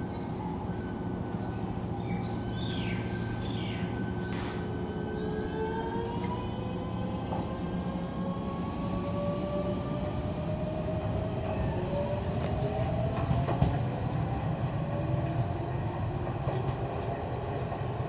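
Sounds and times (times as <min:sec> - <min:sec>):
train rumbling with rising whine: 0:00.0 - 0:18.0.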